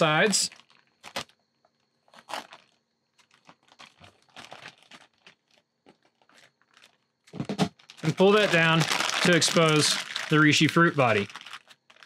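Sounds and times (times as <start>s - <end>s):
plastic bag crinkling: 0.4s - 1.4s, 2.1s - 12.0s.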